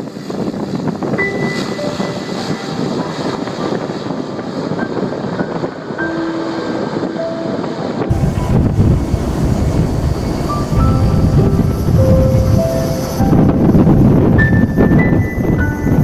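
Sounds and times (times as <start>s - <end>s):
turboprop airplane taking off: 0.0s - 16.0s.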